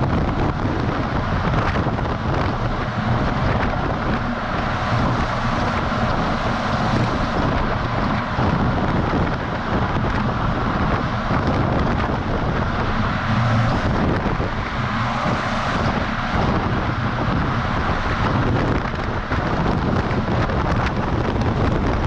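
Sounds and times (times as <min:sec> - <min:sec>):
truck engine drone: 0:00.0 - 0:22.0
tyres on road: 0:00.0 - 0:22.0
wind buffeting microphone: 0:00.0 - 0:22.0.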